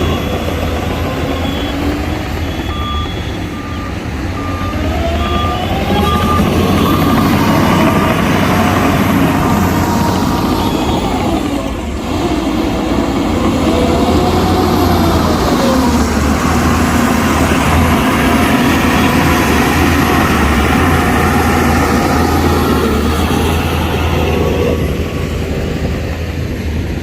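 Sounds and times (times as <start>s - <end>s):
heavy diesel machinery running: 0.0s - 27.0s.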